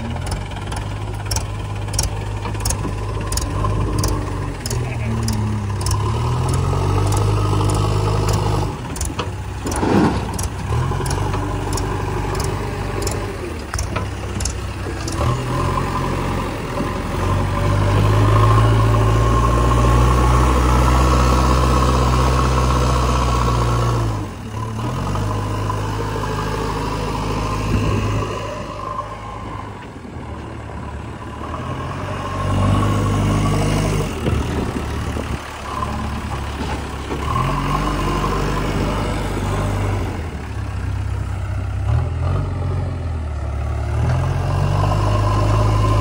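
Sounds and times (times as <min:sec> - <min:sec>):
diesel engine changing revs: 0:00.0 - 0:46.0.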